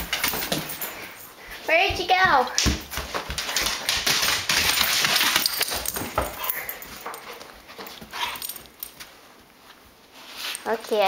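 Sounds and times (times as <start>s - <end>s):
dog scuffling: 0.0s - 11.0s.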